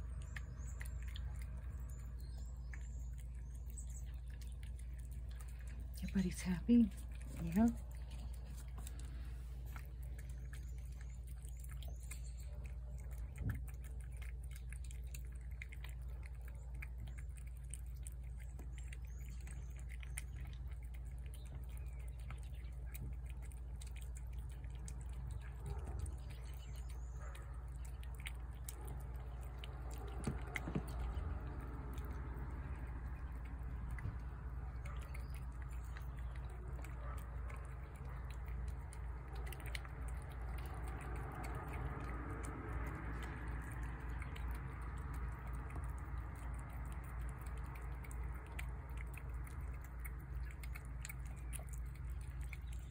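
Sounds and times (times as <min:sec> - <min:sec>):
cats chewing and lapping: 0:00.0 - 0:52.9
steady low hum: 0:00.0 - 0:52.9.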